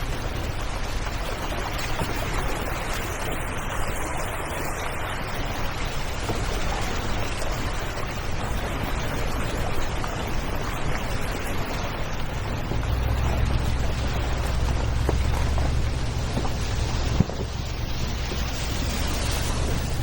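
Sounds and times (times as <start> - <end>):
tyre and wind noise: 0.0 - 20.0
vehicle engine rumble: 0.0 - 20.0.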